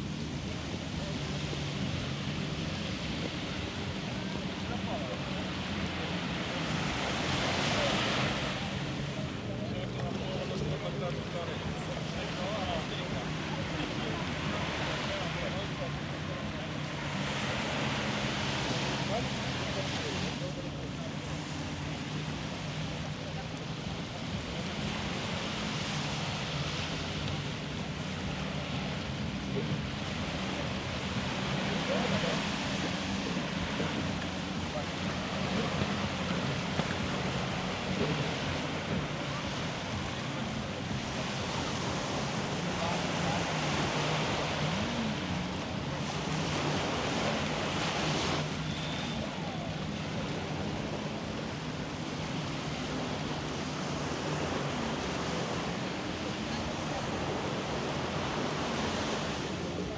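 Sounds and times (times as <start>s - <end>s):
surf: 0.0s - 59.9s
wind: 0.0s - 59.9s.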